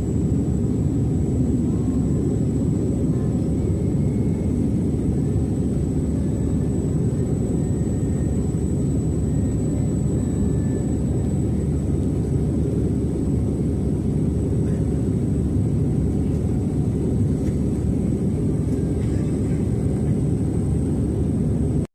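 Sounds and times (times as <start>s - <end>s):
airplane rumble in flight: 0.0s - 21.9s
faint high whine: 0.0s - 21.9s.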